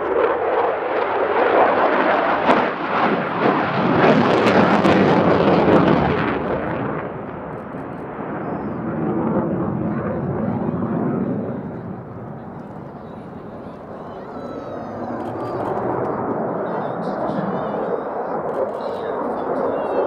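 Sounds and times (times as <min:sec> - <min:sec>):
jet engine roar with crackles: 0:00.0 - 0:20.0.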